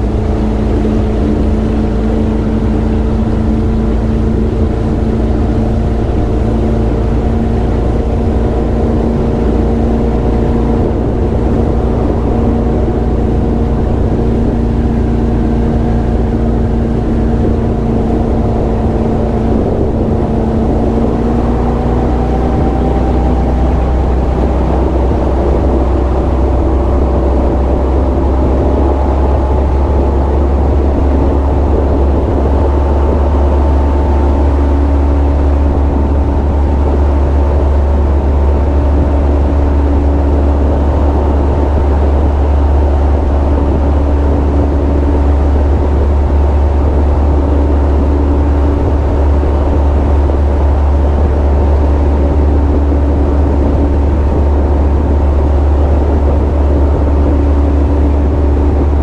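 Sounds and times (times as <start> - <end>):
powerboat engine running: 0.0 - 59.0
rush of boat wake: 0.0 - 59.0.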